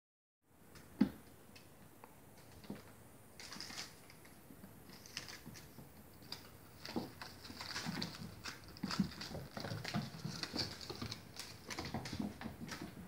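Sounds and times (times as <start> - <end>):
scratchy scrabbles and rustles: 2.4 - 13.0.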